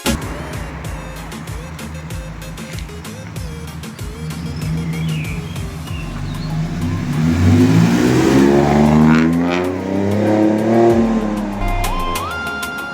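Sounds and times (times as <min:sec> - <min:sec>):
car engine accelerating: 0:00.0 - 0:12.4.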